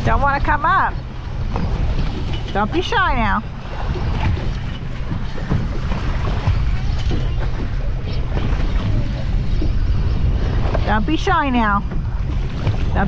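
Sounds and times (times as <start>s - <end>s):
waves splashing against boat: 0.0s - 13.0s
wind buffeting microphone: 0.0s - 13.0s.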